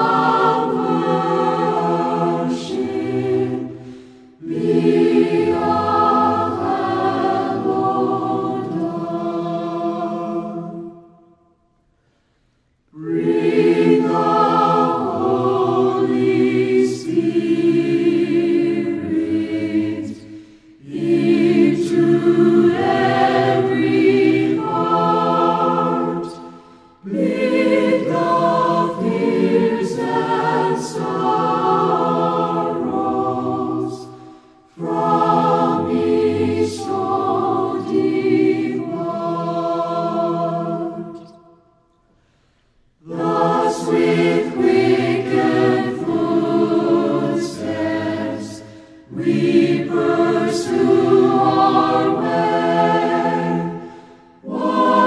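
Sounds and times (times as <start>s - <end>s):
choir singing a hymn: 0.0s - 11.8s, 12.9s - 55.0s.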